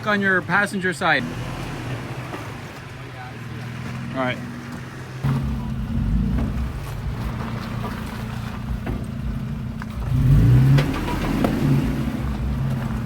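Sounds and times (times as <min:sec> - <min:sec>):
pickup truck engine revving: 0:00.9 - 0:13.0.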